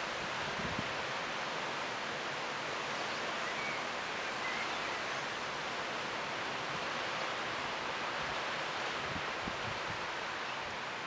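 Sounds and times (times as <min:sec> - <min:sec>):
leaves rustling in wind: 0:00.0 - 0:11.0.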